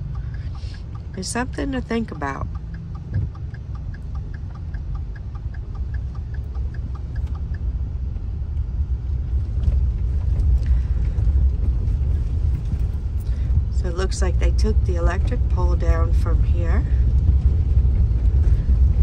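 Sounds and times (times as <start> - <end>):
car engine and tyre rumble: 0.0 - 19.0
light regular ticking: 0.0 - 19.0.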